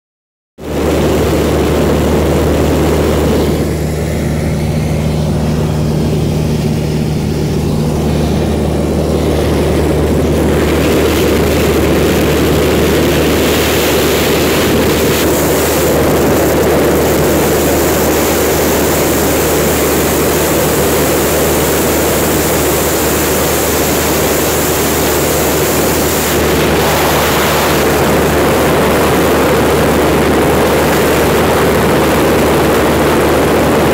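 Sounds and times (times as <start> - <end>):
light aircraft engine droning: 0.6 - 33.9.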